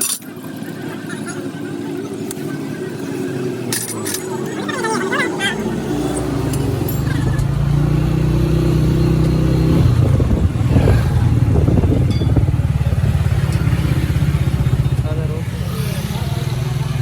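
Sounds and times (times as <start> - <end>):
vehicle engine running: 1.9 - 17.0.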